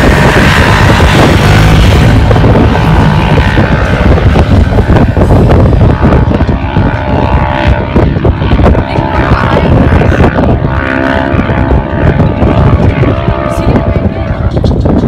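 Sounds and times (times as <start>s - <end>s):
distant off-road vehicle engine: 0.0s - 14.8s
wind rumble on microphone: 0.0s - 15.0s.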